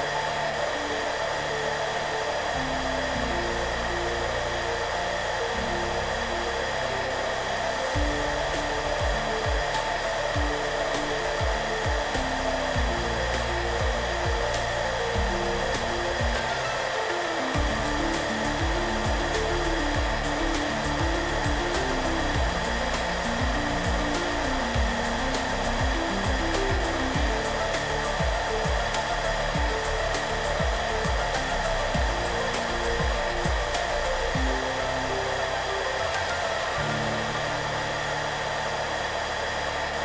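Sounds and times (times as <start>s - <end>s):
hairdryer whooshing: 0.0s - 40.0s
soft background music: 0.0s - 40.0s.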